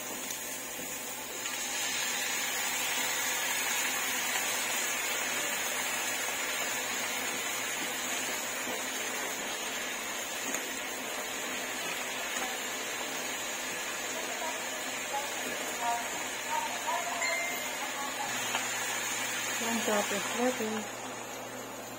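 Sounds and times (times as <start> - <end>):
food sizzling in a hot pan: 0.0 - 21.9.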